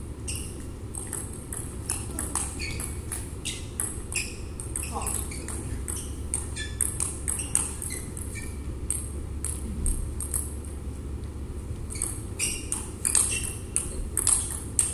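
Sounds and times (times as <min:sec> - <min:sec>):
table tennis balls clicking: 0:00.3 - 0:10.8, 0:11.8 - 0:14.9.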